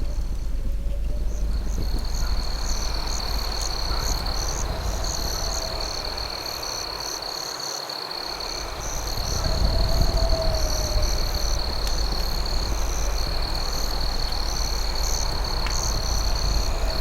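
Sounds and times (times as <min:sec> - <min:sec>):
low rumble: 0:00.0 - 0:07.0, 0:08.5 - 0:17.0
crickets trilling: 0:00.0 - 0:17.0
rhythmic cricket chirping: 0:00.0 - 0:17.0.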